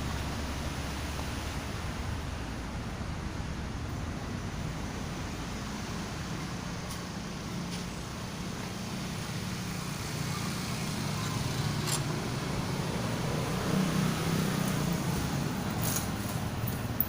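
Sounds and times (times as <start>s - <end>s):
noisy rumble: 0.0s - 17.0s.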